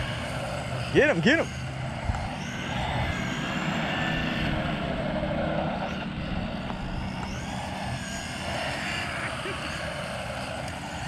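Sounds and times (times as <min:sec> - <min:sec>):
rc car electric motors whining: 0:00.0 - 0:11.0.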